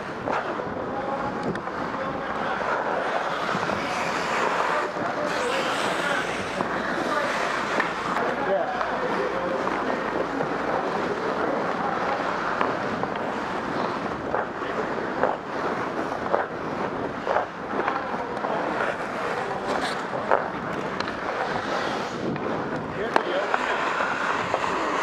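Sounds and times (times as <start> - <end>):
hockey sticks and pucks clacking: 0.0 - 25.0
skating rushing noise: 0.0 - 25.0.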